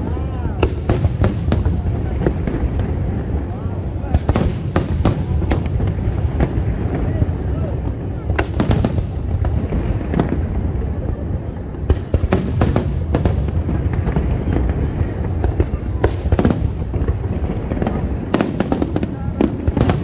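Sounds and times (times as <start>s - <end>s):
fireworks low rumble: 0.0s - 20.0s
fireworks sharp cracks: 0.0s - 20.0s.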